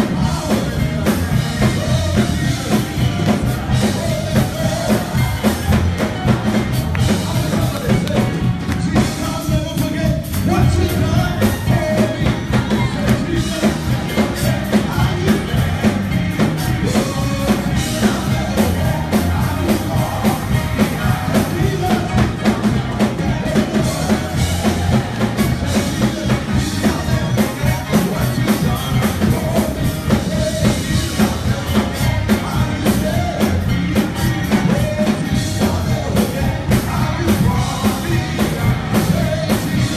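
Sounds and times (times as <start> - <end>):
backing singers: 0.0 - 39.9
band with drum kit: 0.0 - 39.9
lead singers: 0.0 - 39.9.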